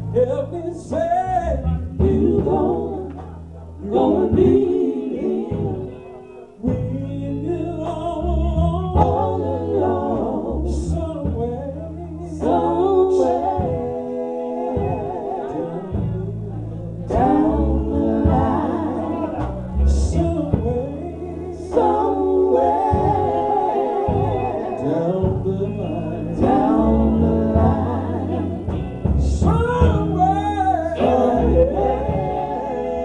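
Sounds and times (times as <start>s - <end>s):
gospel singers in harmony: 0.0s - 33.0s
sustained bass line: 0.0s - 33.0s.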